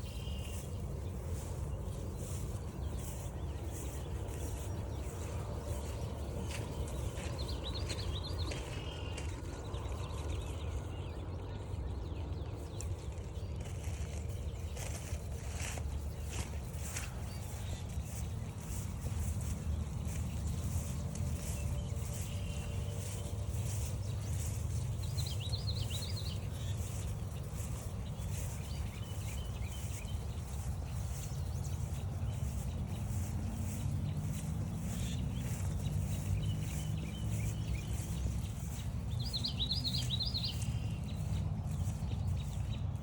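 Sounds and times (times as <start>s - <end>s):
footsteps on forest trail: 0.0s - 43.0s
songbird singing: 0.0s - 43.0s.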